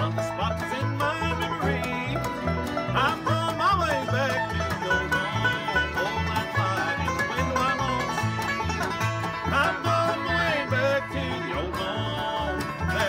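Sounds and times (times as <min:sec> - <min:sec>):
acoustic guitar: 0:00.0 - 0:13.0
banjo: 0:00.0 - 0:13.0
dobro sliding melody: 0:00.0 - 0:13.0
fiddle: 0:00.0 - 0:13.0
upright bass pulse: 0:00.0 - 0:13.0.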